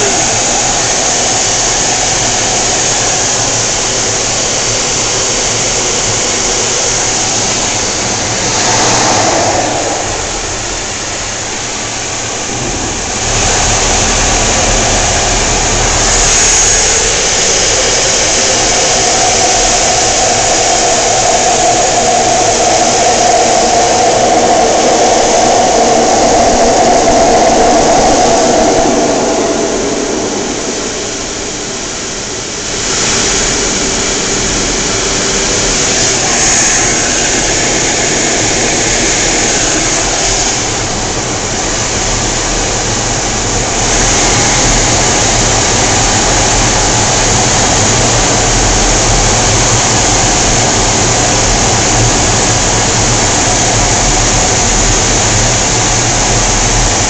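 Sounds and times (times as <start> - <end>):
jet engine and airflow noise: 0.0 - 57.0.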